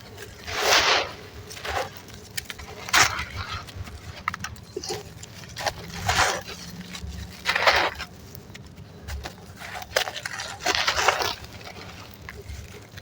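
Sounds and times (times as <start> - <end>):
sand and charcoal crumbling in water: 0.0 - 13.0
small crackles and clicks: 0.0 - 13.0.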